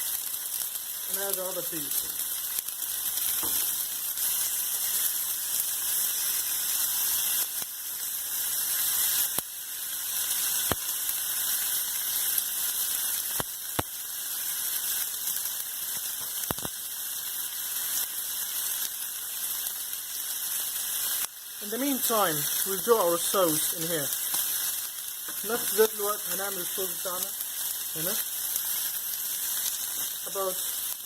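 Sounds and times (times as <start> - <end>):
steak sizzling in a pan: 0.0 - 31.0.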